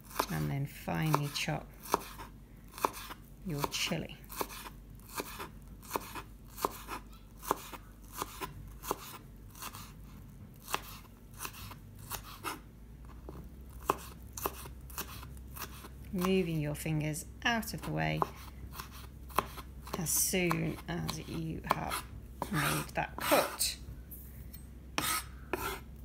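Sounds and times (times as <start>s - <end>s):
knife chopping on plastic board: 1.0s - 9.9s, 10.6s - 16.4s, 17.8s - 23.6s, 25.0s - 25.8s.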